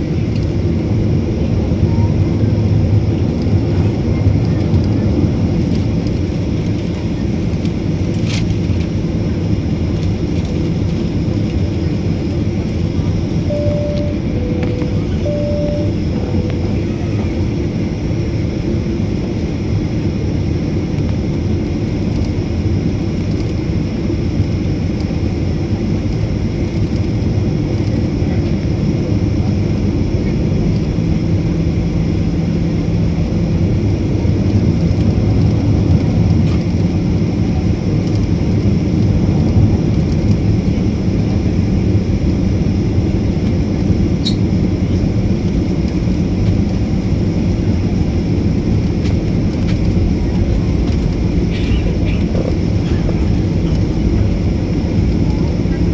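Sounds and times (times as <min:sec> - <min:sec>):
jet engine rumble inside cabin: 0:00.0 - 0:55.9.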